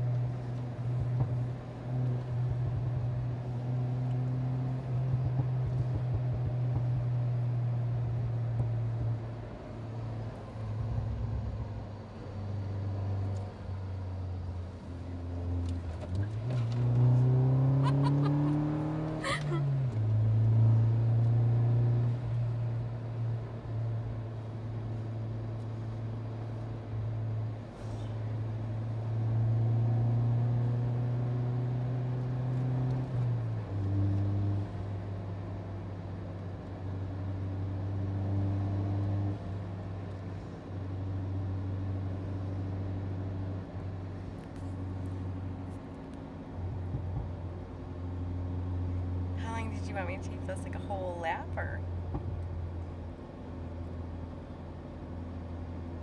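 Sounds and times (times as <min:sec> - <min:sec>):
car engine from inside cabin: 0:00.0 - 0:56.0.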